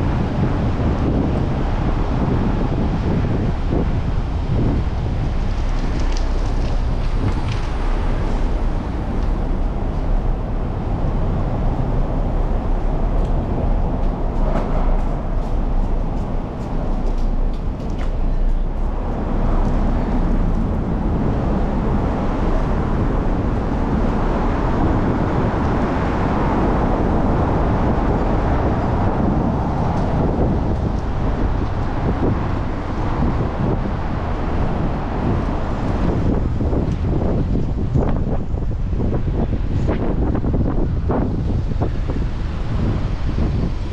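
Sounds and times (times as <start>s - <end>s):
city traffic road noise: 0.0s - 43.9s
wind rushing over microphone: 0.0s - 43.9s.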